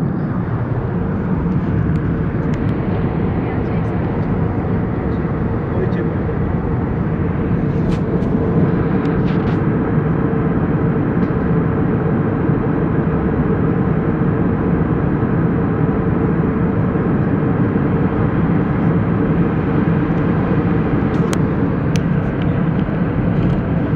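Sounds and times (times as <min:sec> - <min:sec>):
airliner engine and airflow drone: 0:00.0 - 0:23.9.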